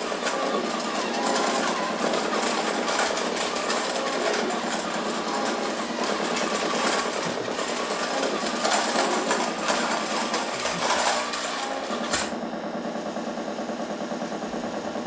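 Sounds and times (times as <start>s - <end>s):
rapid mechanical clattering and buzzing: 0.0s - 15.0s.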